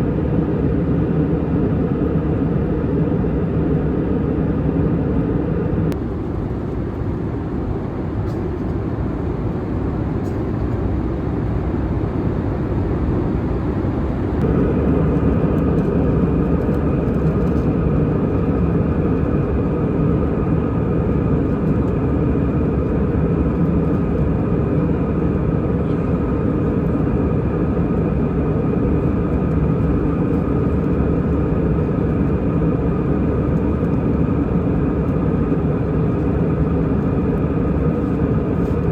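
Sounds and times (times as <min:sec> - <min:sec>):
engine whine: 0:00.0 - 0:38.9
jet engine rumble in cabin: 0:00.0 - 0:38.9.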